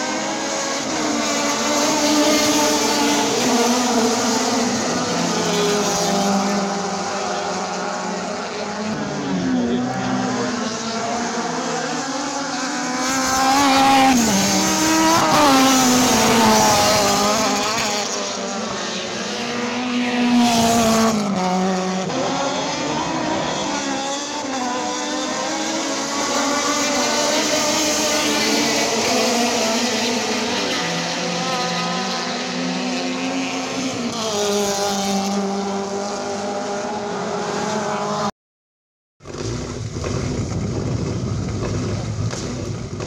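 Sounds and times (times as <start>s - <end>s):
race car engine revving: 0.0s - 38.3s, 39.2s - 43.0s.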